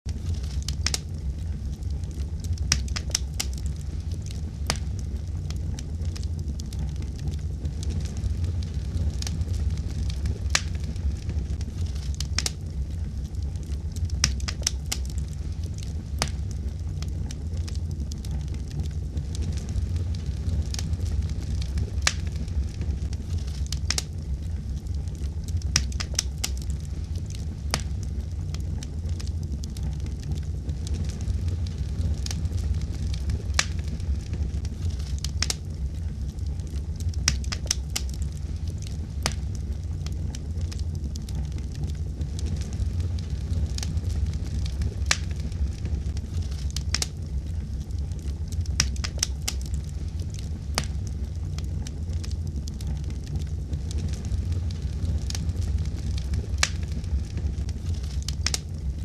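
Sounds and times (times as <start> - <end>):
fireplace fire crackling and popping: 0.0 - 59.0.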